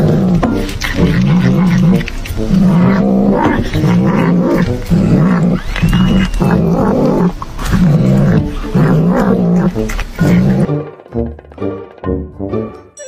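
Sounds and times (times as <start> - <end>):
cat growling: 0.0 - 10.7.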